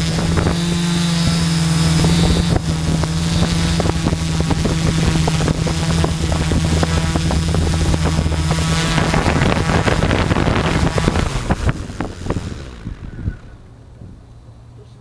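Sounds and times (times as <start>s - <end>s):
wind crackling on microphone: 0.0s - 14.3s
drone propellers droning: 0.0s - 15.0s.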